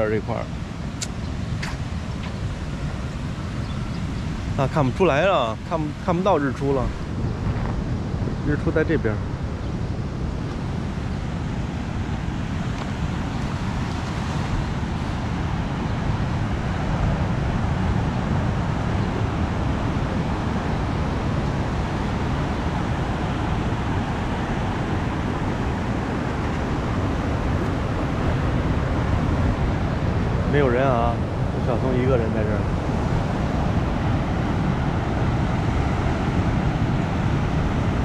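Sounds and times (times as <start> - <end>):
surf breaking on a reef: 0.0 - 38.0
wind rumbling on microphone: 0.0 - 38.0.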